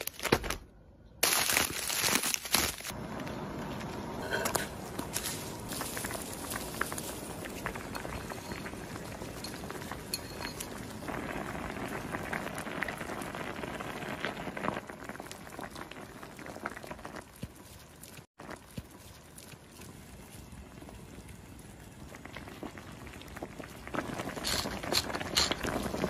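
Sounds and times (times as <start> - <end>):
soup bubbling in a pot: 4.8 - 26.0.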